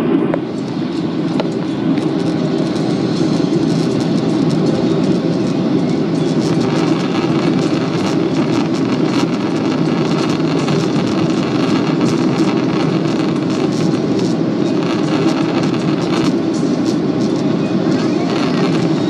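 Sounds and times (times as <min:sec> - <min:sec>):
aircraft engine and air rumble: 0:00.0 - 0:19.0.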